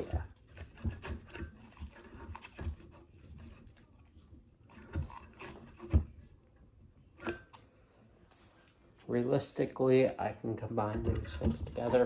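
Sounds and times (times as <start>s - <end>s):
tubes knocking and rubbing: 0.0s - 7.5s, 9.2s - 12.0s.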